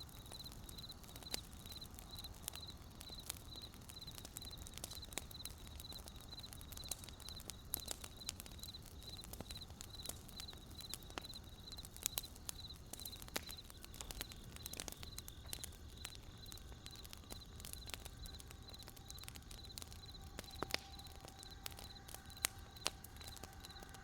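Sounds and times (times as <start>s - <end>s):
campfire crackling: 0.0s - 24.0s
cricket chirping: 0.0s - 24.0s.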